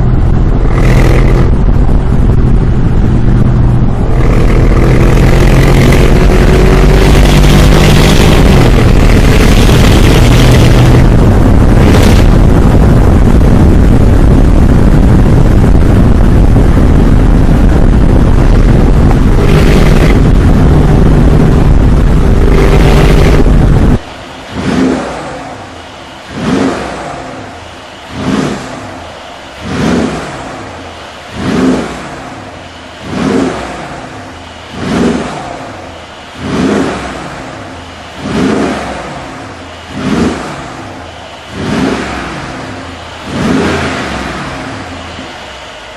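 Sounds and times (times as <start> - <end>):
car engine revving through exhaust: 0.0 - 45.9.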